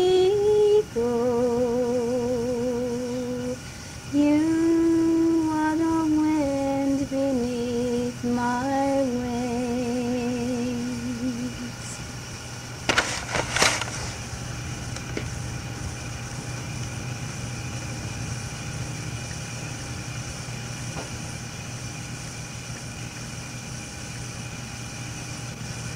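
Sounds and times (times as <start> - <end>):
tape hiss and hum: 0.0 - 25.9.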